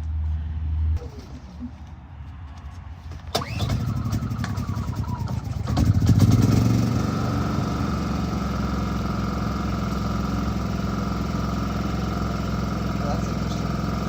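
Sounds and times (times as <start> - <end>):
generator engine starting: 1.0 - 1.9, 3.2 - 14.0.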